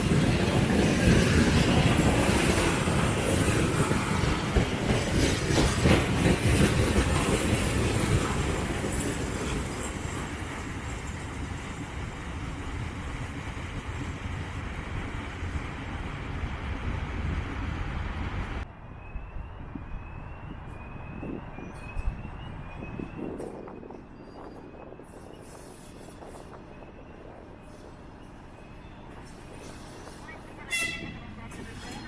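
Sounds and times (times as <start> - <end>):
freight wagons rumbling over rail joints: 0.0 - 18.6, 20.0 - 32.0.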